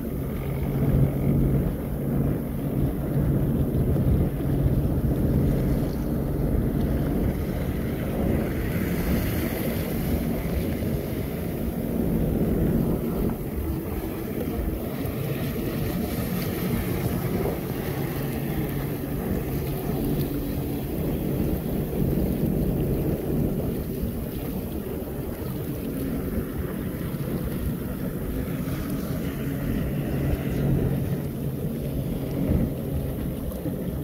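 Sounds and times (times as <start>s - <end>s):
boat engine humming: 0.0s - 34.0s
water rushing past hull: 0.0s - 34.0s
wind buffeting microphone: 0.0s - 34.0s.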